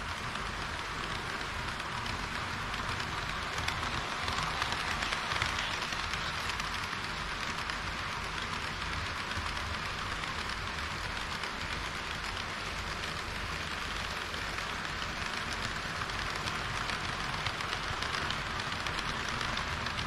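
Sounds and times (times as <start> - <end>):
model train wheels on rails: 0.0 - 20.0.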